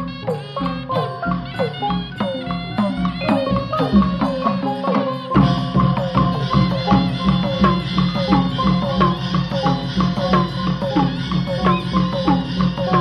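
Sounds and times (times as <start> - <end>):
steady drum beat: 0.0 - 13.0
struck tuned percussion runs: 0.0 - 13.0.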